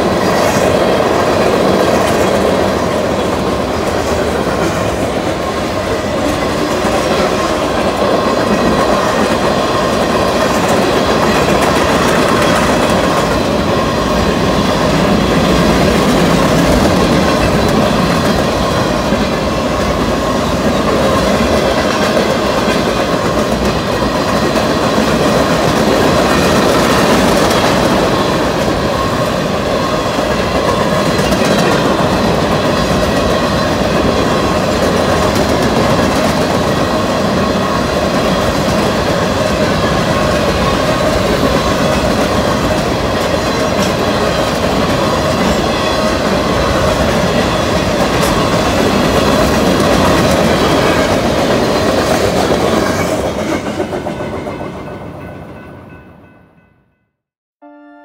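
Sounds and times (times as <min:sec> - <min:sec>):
train wheels on rails: 0:00.0 - 0:56.4.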